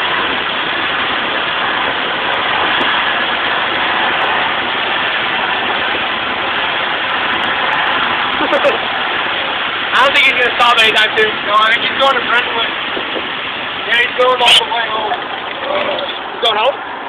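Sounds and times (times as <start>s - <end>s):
road noise: 0.0s - 17.0s
wind blasting microphone: 0.0s - 17.0s.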